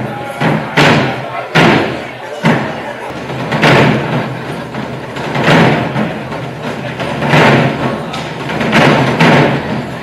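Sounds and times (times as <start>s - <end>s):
barrel drums struck in unison: 0.4s - 10.0s.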